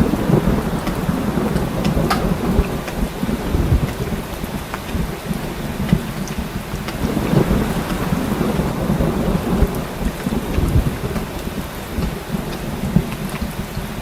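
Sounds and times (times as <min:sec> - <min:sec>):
heavy rain falling: 0:00.0 - 0:14.0
low rumble of thunder: 0:00.0 - 0:14.0.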